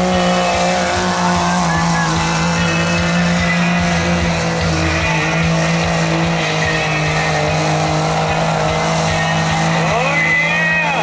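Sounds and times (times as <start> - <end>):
diesel engine running at high revs: 0.0 - 11.0.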